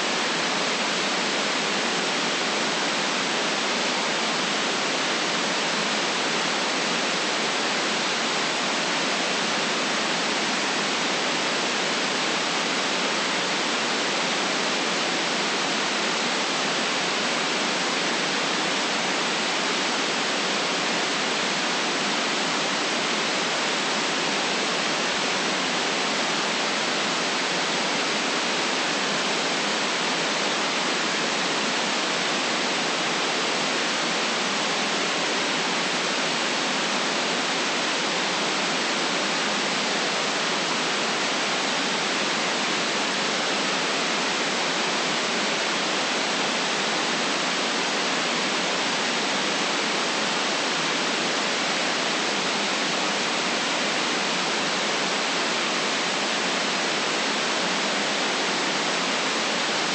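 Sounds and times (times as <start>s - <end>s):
electronic white noise hiss: 0.0s - 59.9s.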